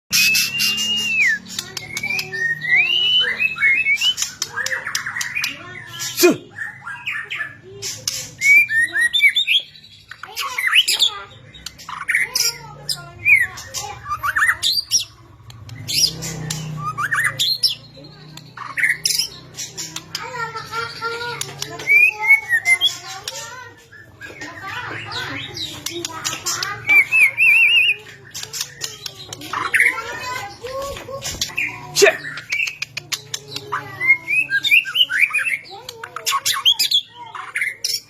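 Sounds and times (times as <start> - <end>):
bird singing: 0.1 - 38.0.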